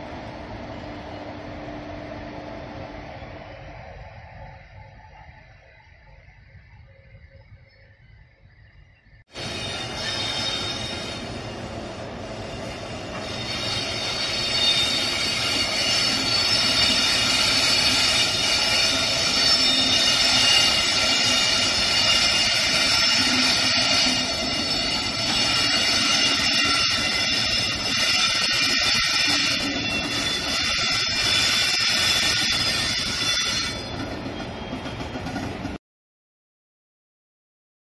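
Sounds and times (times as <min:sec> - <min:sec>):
locomotive high whine: 0:00.0 - 0:35.8
wheels rumbling on rails: 0:00.0 - 0:35.8.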